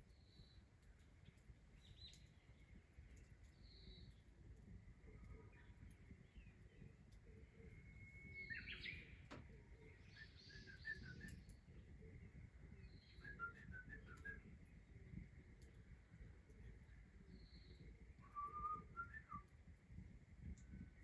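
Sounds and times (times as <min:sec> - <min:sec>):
bird calls and chirps: 0:00.1 - 0:04.3, 0:05.0 - 0:15.2, 0:16.5 - 0:19.5.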